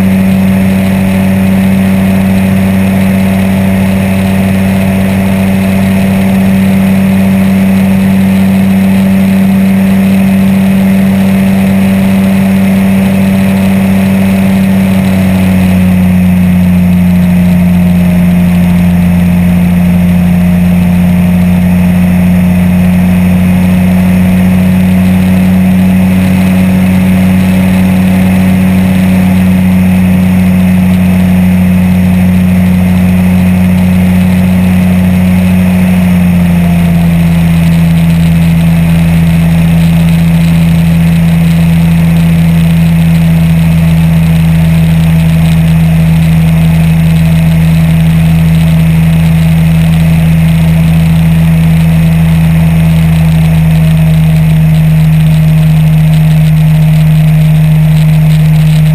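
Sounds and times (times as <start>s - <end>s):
aircraft engine and propeller: 0.0s - 58.9s.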